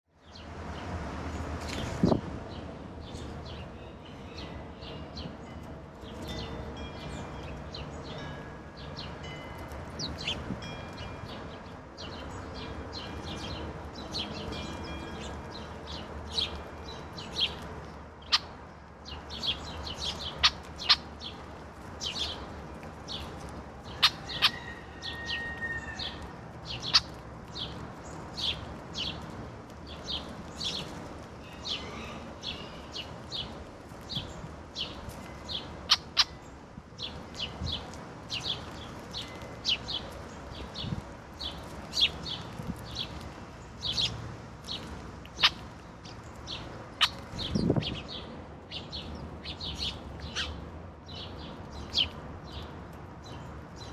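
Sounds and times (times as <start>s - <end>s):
songbirds chirping: 0.1s - 53.9s.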